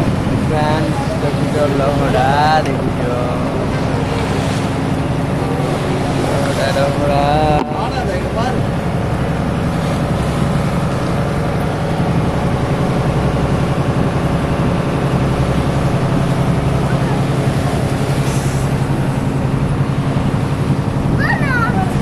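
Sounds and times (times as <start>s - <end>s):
boat engine humming: 0.0s - 22.0s
water rushing along hull: 0.0s - 22.0s.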